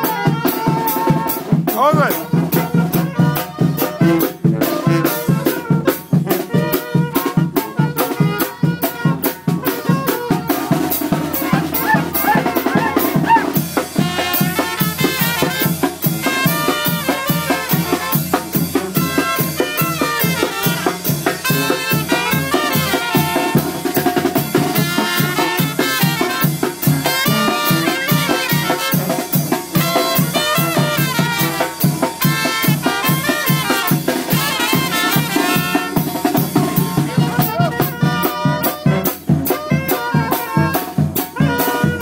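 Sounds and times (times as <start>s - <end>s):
brass band playing: 0.0s - 42.0s.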